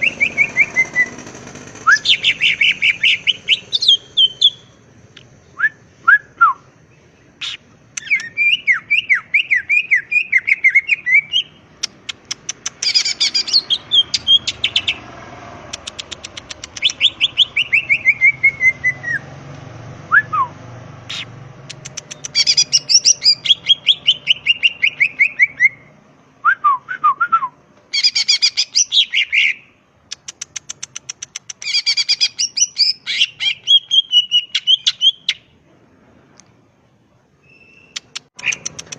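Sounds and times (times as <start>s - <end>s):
bird singing varied song: 0.0s - 19.4s, 20.1s - 26.0s, 27.9s - 35.6s, 37.4s - 38.9s.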